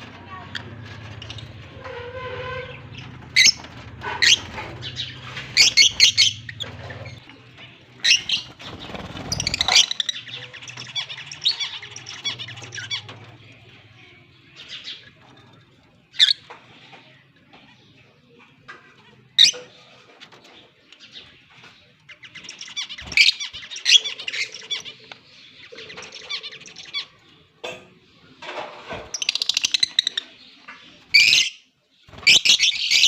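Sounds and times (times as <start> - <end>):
lovebirds chirping: 0.0 - 18.6, 19.2 - 33.0.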